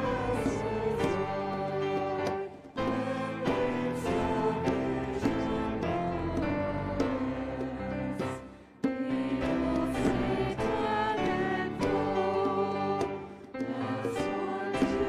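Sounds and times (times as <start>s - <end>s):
voices singing together: 0.0s - 15.0s
worship band playing: 0.0s - 15.0s.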